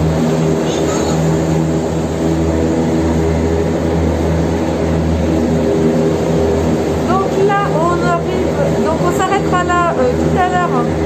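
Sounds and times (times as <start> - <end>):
cable car machinery hum: 0.0 - 11.0.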